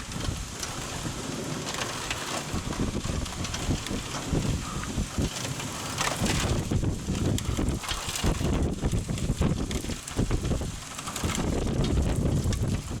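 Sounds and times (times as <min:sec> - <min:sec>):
rain crackle: 0:00.0 - 0:13.0
wind gusts rumbling on microphone: 0:00.0 - 0:13.0.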